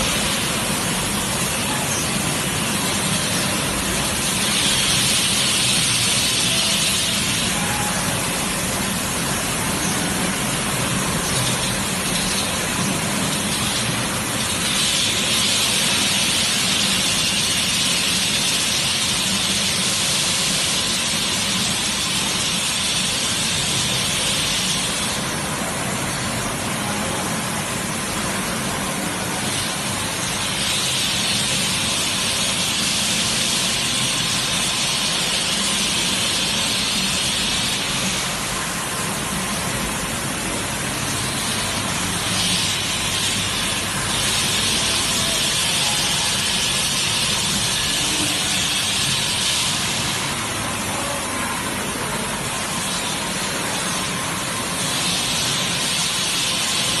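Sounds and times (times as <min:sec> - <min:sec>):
bottling line machinery running: 0:00.0 - 0:57.0
higher hiss: 0:00.0 - 0:57.0.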